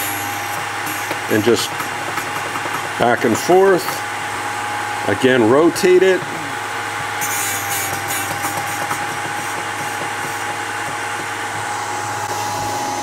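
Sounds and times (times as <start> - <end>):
electric motor whine and hum: 0.0 - 13.0.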